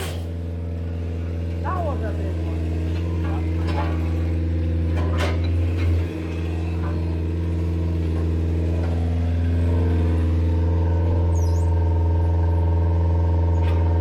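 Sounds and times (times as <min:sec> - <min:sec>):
heavy equipment engine running: 0:00.0 - 0:14.0.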